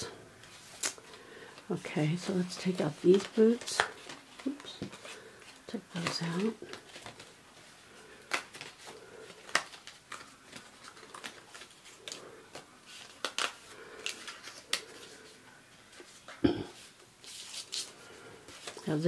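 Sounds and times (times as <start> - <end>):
paper clicks and rustles: 0.4 - 19.0.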